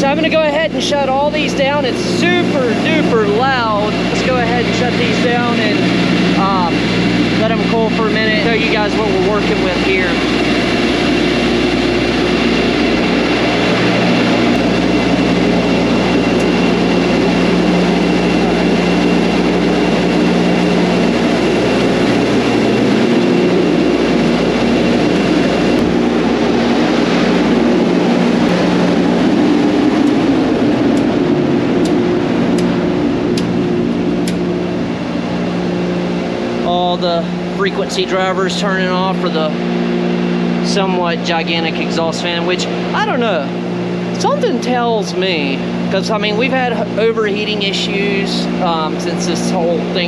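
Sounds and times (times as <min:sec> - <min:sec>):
cooling fans whirring: 0:00.0 - 0:50.0
high whine: 0:00.0 - 0:50.0.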